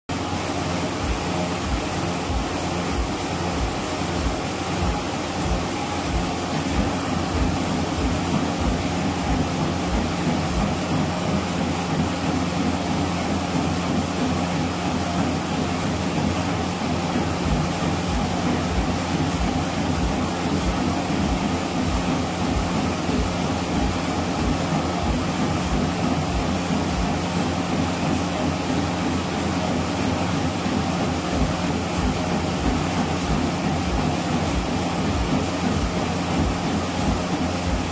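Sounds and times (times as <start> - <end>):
treadmill belt and motor: 0.1 - 37.9.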